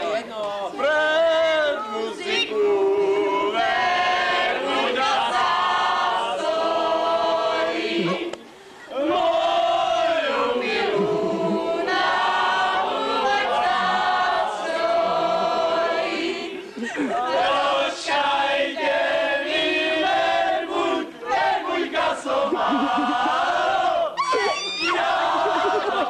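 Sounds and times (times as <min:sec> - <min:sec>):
group singing a folk song: 0:00.0 - 0:24.2, 0:24.9 - 0:26.0.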